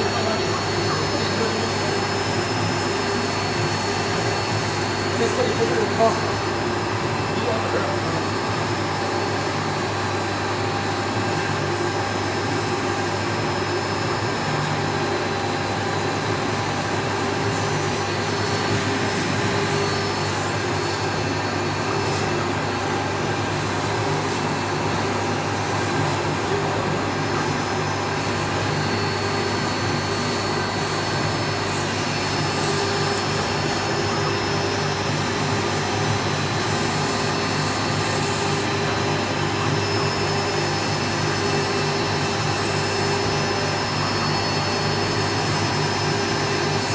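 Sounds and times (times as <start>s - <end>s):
router cutting foam: 0.0s - 46.9s
router spindle whine: 0.0s - 46.9s.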